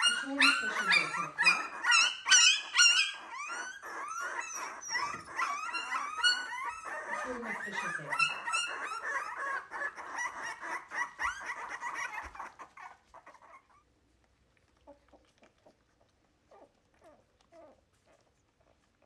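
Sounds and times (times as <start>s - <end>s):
puppies whining and squealing: 0.0s - 14.0s, 14.6s - 19.0s.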